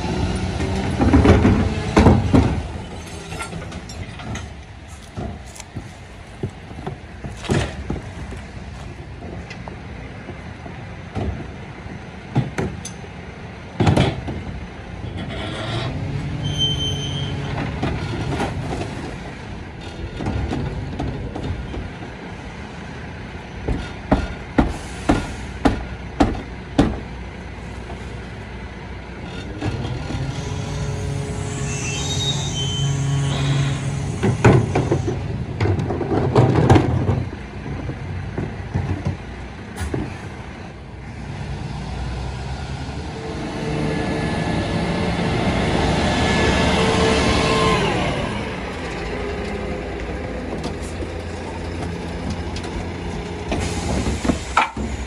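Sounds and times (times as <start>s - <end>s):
garbage truck engine and hydraulics: 0.0s - 55.0s.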